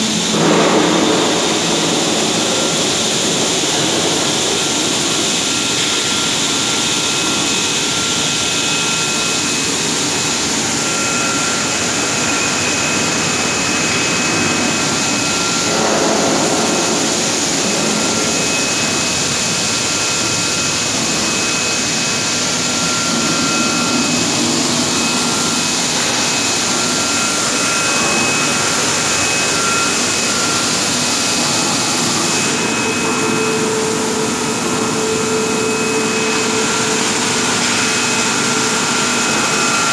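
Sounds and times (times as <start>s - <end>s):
faint high whine: 0.0s - 39.9s
washing machine hissing: 0.0s - 39.9s.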